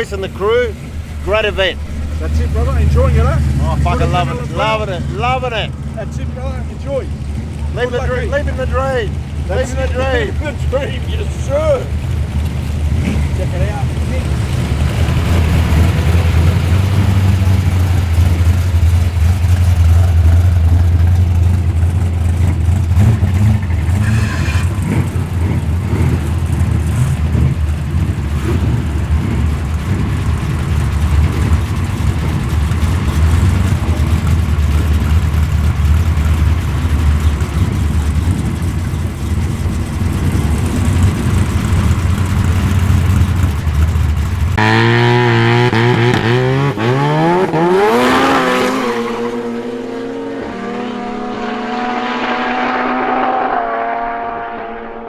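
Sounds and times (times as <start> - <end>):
engine revving up: 0.0 - 21.4, 22.0 - 35.8, 36.4 - 55.0
car engine idling: 0.0 - 51.5.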